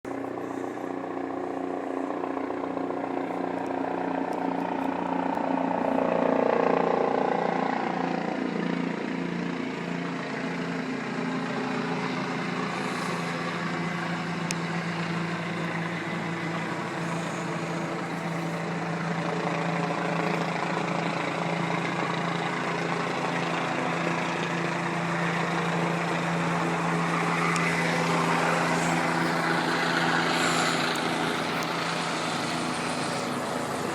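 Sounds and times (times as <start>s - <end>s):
helicopter engine and rotor: 0.0s - 33.9s.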